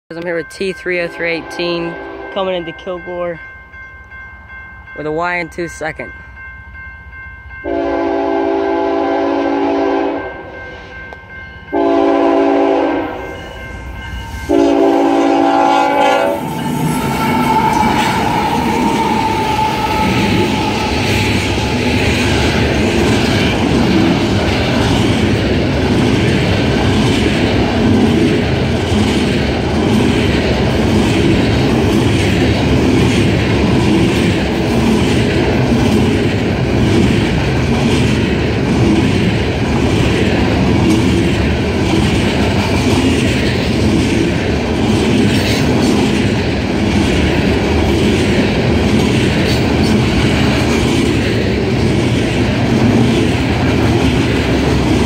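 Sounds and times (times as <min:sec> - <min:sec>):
train wheels rumbling on rail: 0:07.6 - 0:55.0.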